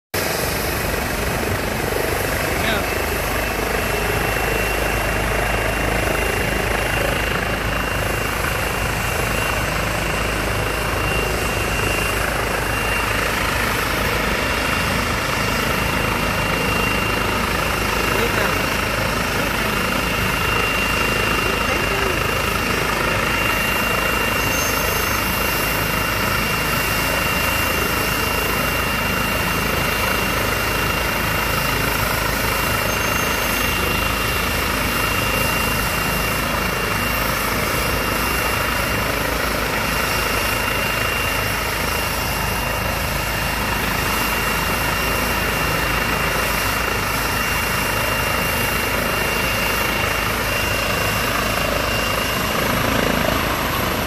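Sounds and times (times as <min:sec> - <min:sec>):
helicopter rotor and engine: 0:00.1 - 0:54.0.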